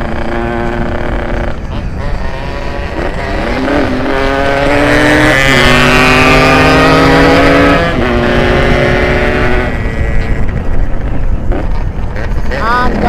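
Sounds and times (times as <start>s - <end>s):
motorcycle engine revving through gears: 0.0s - 13.0s.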